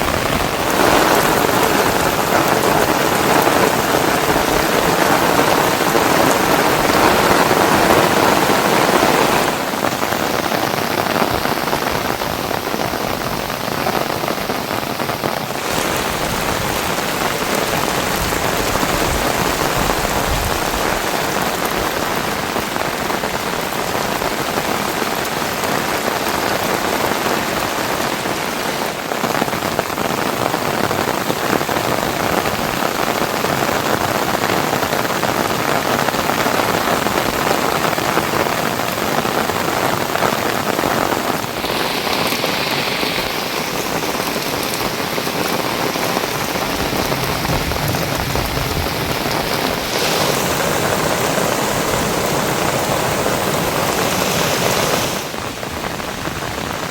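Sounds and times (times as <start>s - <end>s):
heavy rain pattering: 0.0s - 56.9s.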